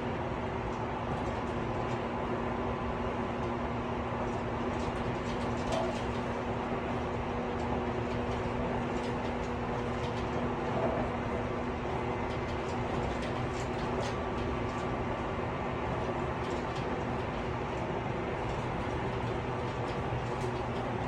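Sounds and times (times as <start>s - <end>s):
even electric hum: 0.0s - 21.0s
train wheels rumbling on rail: 0.0s - 21.0s.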